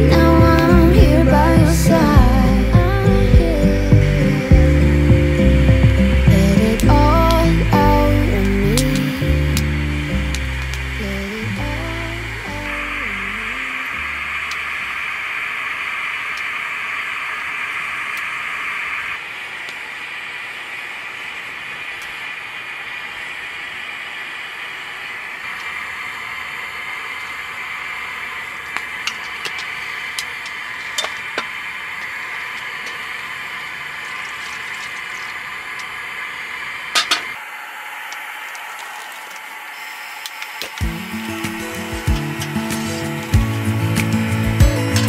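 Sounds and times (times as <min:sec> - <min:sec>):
flames hissing: 0:00.0 - 0:45.0.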